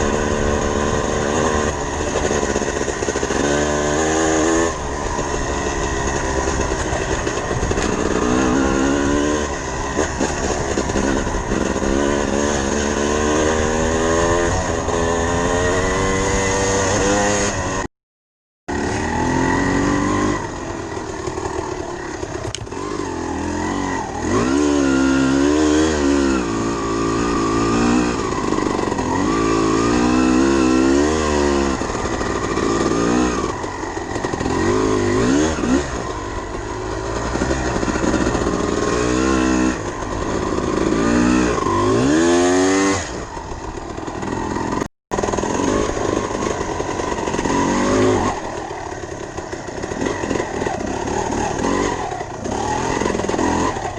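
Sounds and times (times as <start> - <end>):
dirt bike engine revving: 0.0 - 17.9, 18.7 - 53.9.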